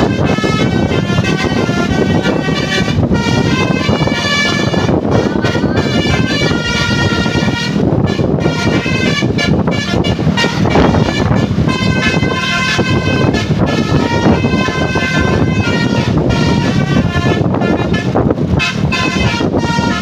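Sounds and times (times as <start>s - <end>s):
bus engine and traffic rumble: 0.0s - 20.0s
multi-tone musical bus horn: 0.0s - 20.0s.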